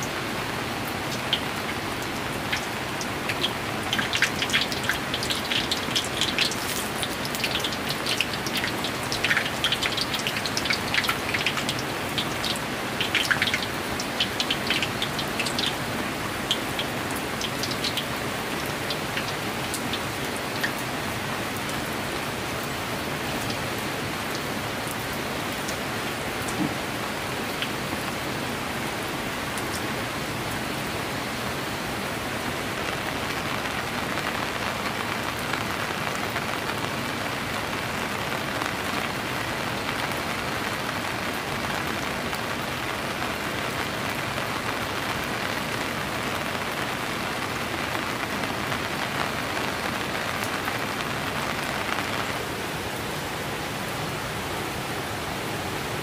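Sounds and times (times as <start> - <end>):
rain falling steadily: 0.0 - 56.0
raindrops striking close by: 0.0 - 56.0.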